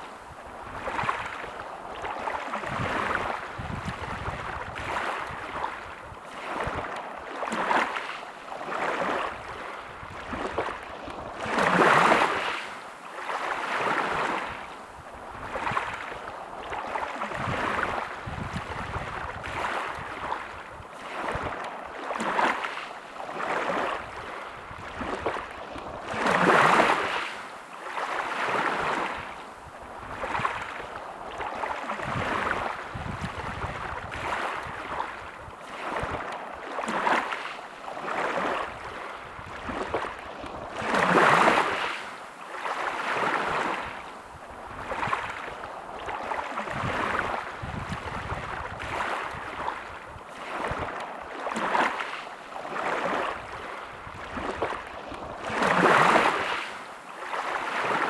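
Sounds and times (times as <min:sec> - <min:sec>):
small sea waves lapping: 0:00.0 - 0:58.0.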